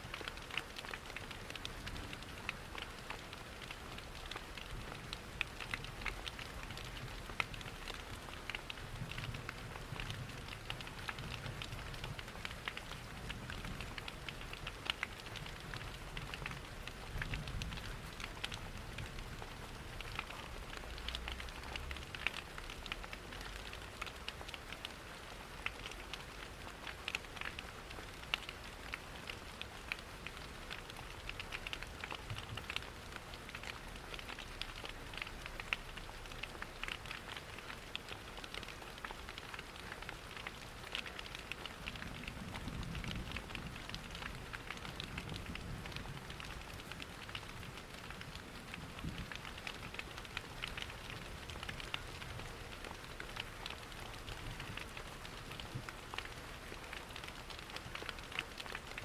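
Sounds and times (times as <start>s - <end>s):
rain pattering: 0.0s - 59.0s
wood fire crackling: 0.1s - 59.0s.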